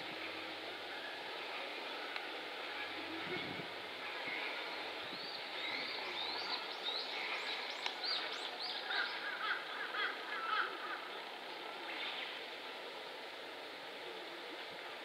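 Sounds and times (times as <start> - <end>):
songbirds chirping: 0.0 - 15.0
steady outdoor hiss: 0.0 - 15.0.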